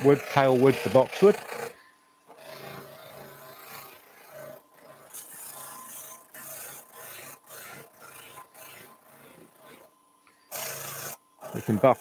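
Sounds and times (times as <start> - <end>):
faint lathe hum: 0.0 - 12.0
handle rubbing on buffing wheel: 0.0 - 12.0.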